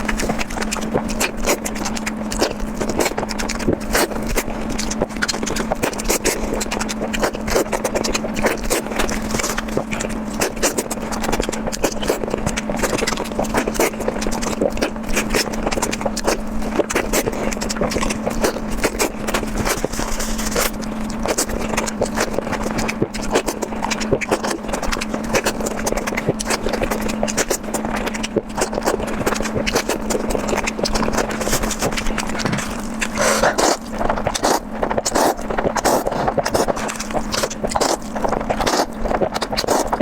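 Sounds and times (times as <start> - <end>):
steady low hum: 0.0 - 40.0
wet chewing and slurping: 0.0 - 40.0.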